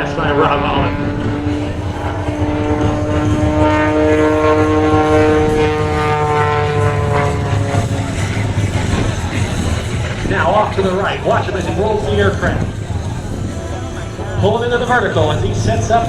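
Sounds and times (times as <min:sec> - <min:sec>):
propeller plane droning overhead: 0:00.0 - 0:16.0.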